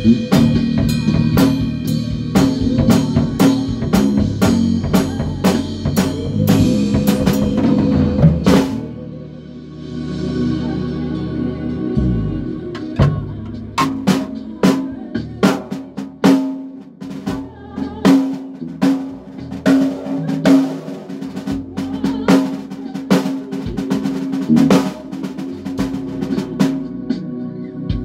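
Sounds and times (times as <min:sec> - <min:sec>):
drum kit snare and bass drum: 0:00.0 - 0:09.1, 0:12.0 - 0:28.0.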